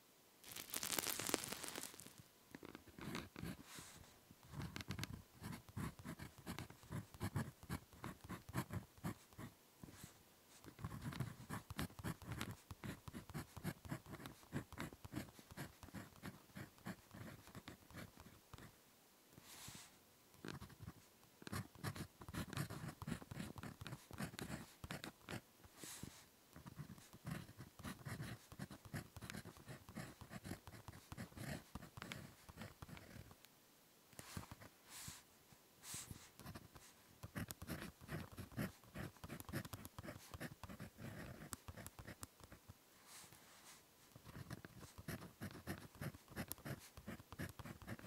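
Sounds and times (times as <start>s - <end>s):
ballpoint pen scratching on paper: 0.6s - 10.0s, 10.6s - 18.7s, 20.4s - 33.4s, 34.2s - 34.7s, 35.9s - 42.7s, 44.1s - 48.0s.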